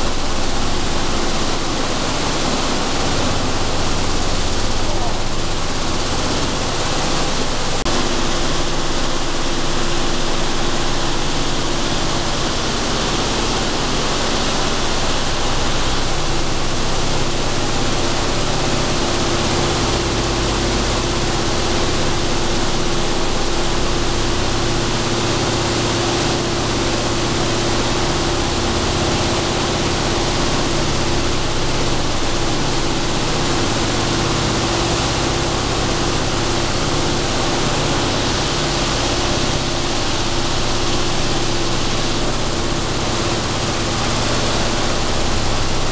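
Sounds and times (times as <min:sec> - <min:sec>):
machinery and fans rushing: 0:00.0 - 0:45.9
steady machine hum: 0:00.0 - 0:45.9.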